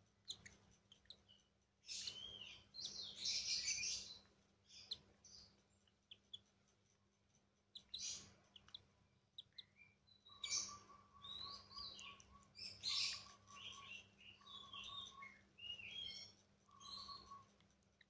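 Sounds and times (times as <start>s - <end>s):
bird chicks cheeping: 0.0s - 18.0s.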